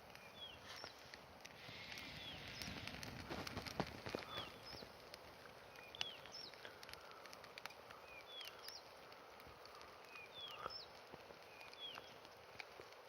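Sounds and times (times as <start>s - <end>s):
small birds chirping: 0.0s - 13.0s
faint clicks: 0.1s - 13.0s.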